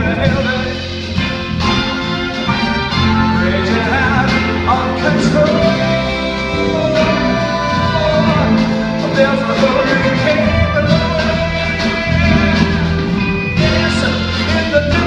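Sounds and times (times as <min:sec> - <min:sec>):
band playing instrumental: 0:00.0 - 0:15.0
wavering lead melody: 0:00.0 - 0:15.0.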